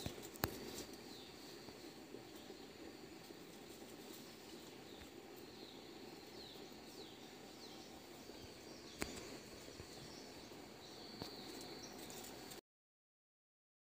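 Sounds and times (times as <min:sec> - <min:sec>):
bird chirping: 0:00.0 - 0:12.6.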